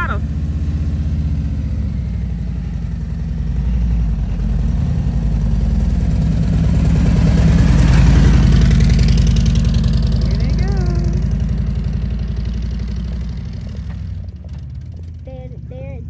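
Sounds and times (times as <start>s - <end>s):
motorcycle engine passing by: 0.0s - 16.0s.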